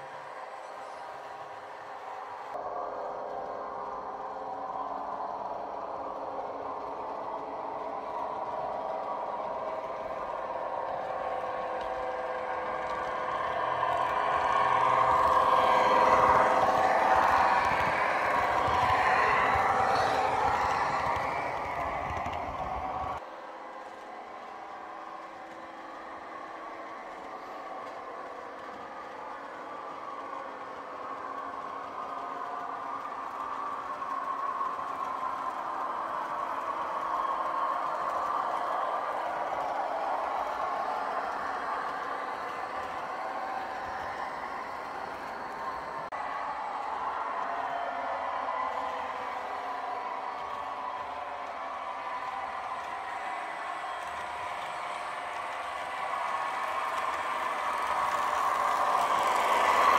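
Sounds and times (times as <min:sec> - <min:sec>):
model train wheels rolling on track: 0:00.0 - 0:59.9.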